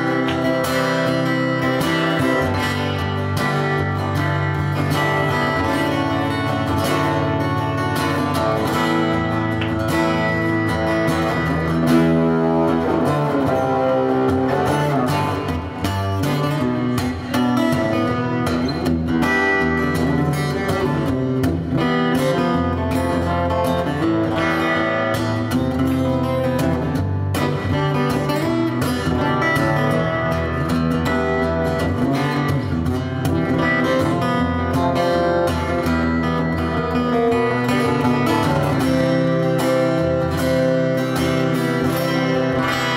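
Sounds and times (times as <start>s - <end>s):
acoustic guitar playing: 0.0s - 42.9s.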